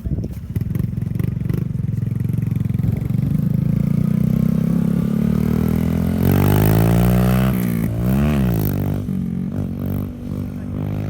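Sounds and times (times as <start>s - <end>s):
motorcycle engine revving: 0.1s - 11.0s.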